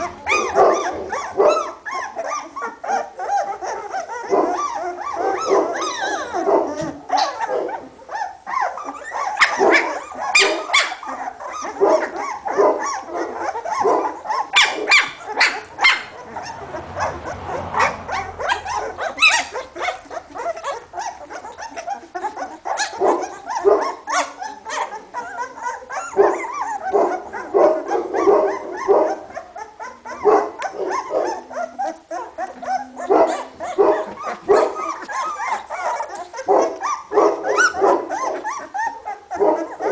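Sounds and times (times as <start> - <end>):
puppies squeaking and whining: 0.0 - 39.9.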